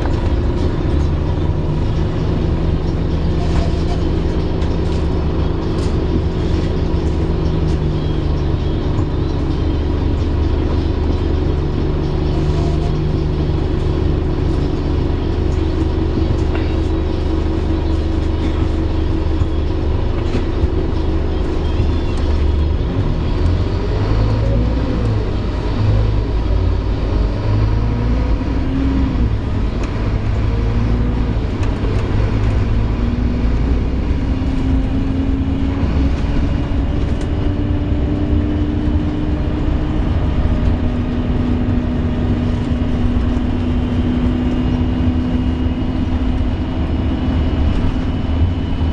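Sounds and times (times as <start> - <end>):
bus engine and road rumble: 0.0 - 48.9
bus groaning noise: 0.0 - 48.9.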